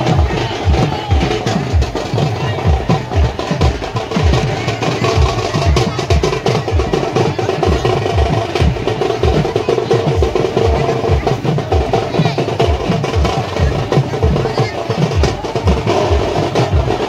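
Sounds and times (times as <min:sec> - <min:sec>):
drums beating deep: 0:00.0 - 0:17.0
large crowd din: 0:00.0 - 0:17.0.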